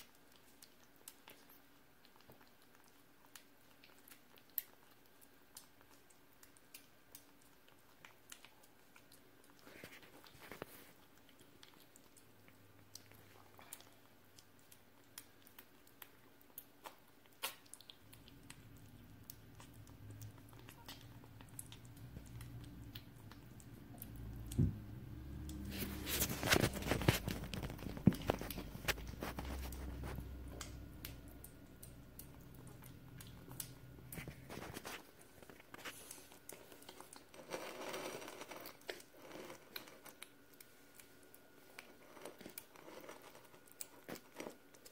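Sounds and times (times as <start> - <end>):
kitten chewing wet food: 0.0 - 44.9.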